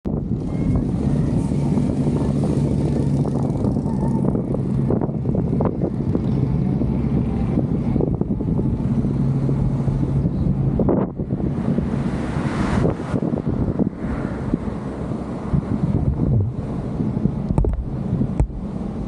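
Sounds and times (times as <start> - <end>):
vehicle engine humming: 0.0 - 19.0
tyre and road rumble: 0.1 - 19.0
wind on microphone: 0.1 - 19.0.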